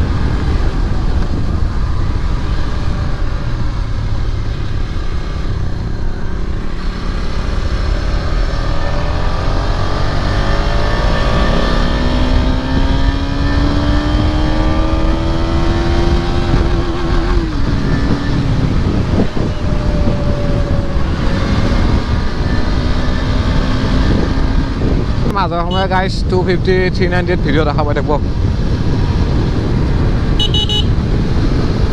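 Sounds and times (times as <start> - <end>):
motorcycle engine accelerating: 0.0 - 27.1, 28.2 - 31.9
wind rumble on microphone: 0.0 - 31.9.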